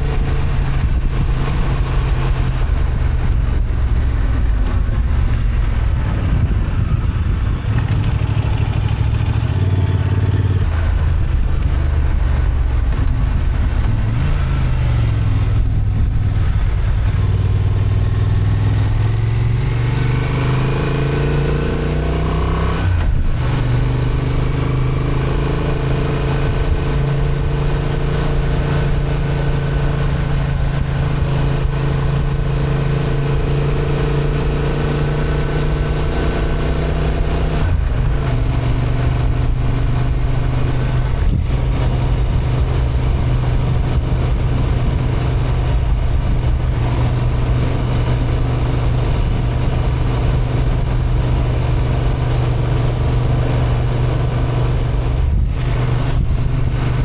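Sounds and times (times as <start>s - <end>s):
motorcycle engine running under load: 0.0s - 57.0s.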